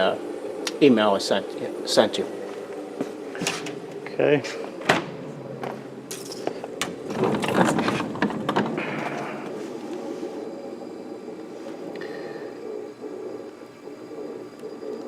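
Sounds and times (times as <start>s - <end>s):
refrigerator low hum: 0.0s - 15.0s.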